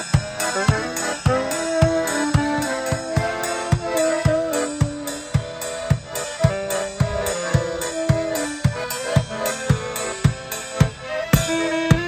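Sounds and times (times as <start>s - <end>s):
drum beat: 0.0s - 12.0s
live band playing dance music: 0.0s - 12.0s.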